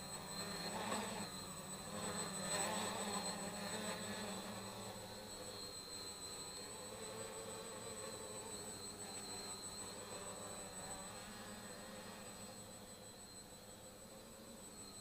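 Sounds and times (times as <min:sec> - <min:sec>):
faint high-pitched whine: 0:00.0 - 0:15.0
quadcopter buzzing in flight: 0:00.0 - 0:15.0.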